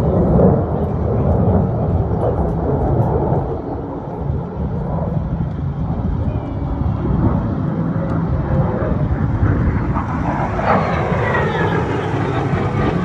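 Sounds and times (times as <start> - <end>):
falling whine: 0.0 - 13.0
jet aircraft engine roar: 0.0 - 13.0.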